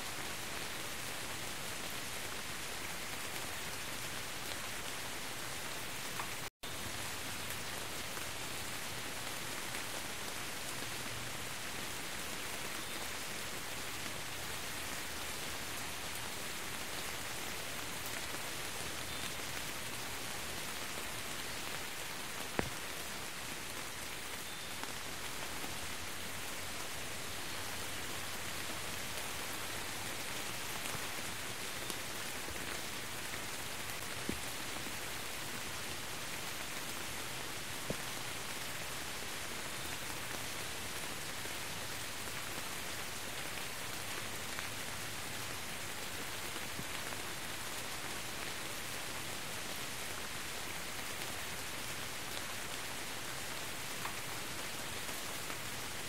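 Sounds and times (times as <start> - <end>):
rain splashing on wet ground: 0.0 - 56.0.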